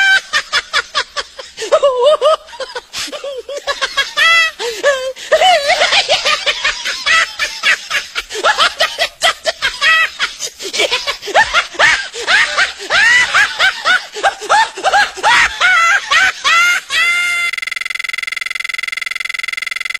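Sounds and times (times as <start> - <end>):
person laughing high-pitched: 0.0 - 17.5.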